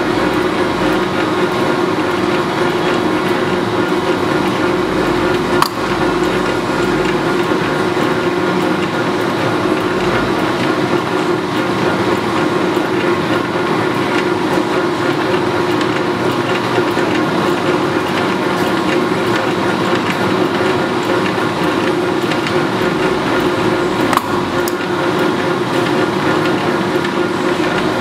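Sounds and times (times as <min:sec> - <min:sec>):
lathe running with steady drone: 0:00.0 - 0:28.0.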